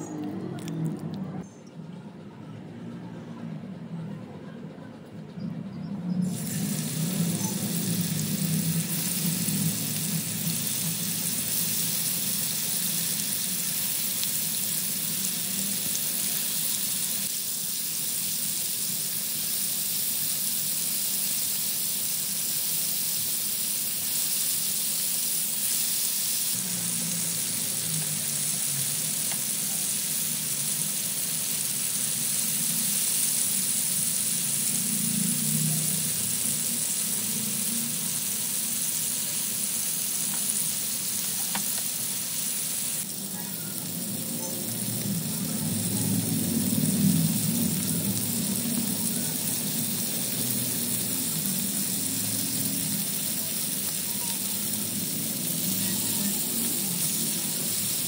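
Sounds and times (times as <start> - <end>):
chicken sizzling in hot oil: 6.2 - 58.0.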